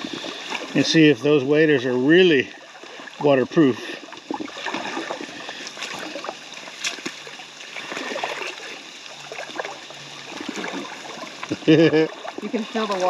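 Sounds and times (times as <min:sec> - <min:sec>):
creek water flowing: 0:00.0 - 0:13.0
splashing steps in water: 0:02.4 - 0:13.0.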